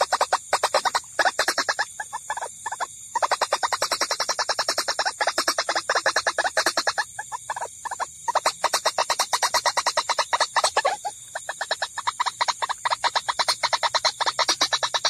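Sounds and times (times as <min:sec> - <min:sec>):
rapid repeated bird calls: 0:00.0 - 0:15.0.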